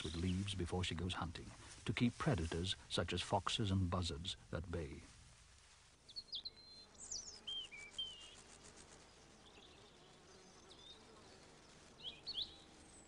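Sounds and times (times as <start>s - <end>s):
small birds chirping: 0.0s - 5.0s, 6.0s - 13.0s.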